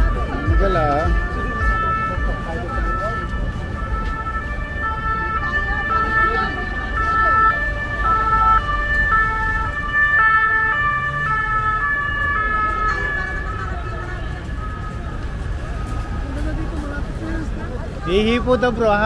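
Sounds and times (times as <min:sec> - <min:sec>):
two-tone siren: 0:00.0 - 0:16.4
low traffic rumble: 0:00.0 - 0:19.0.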